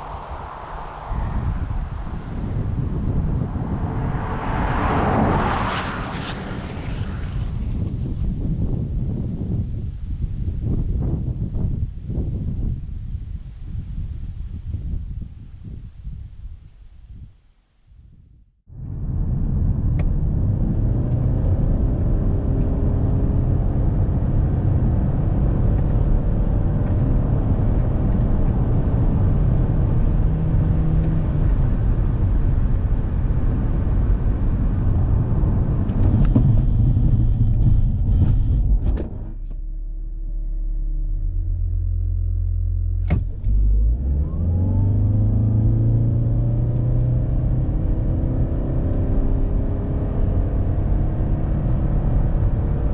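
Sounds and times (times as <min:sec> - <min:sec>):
car engine accelerating: 0:00.0 - 0:08.9, 0:18.7 - 0:52.9.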